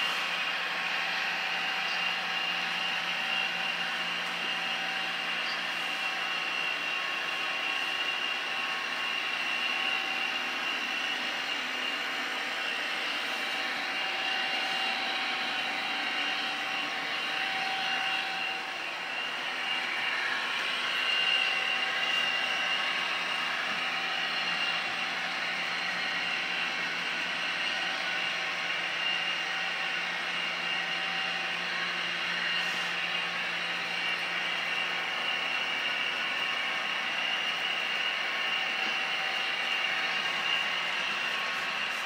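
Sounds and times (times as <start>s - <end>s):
model train motor whine: 0.0s - 42.0s.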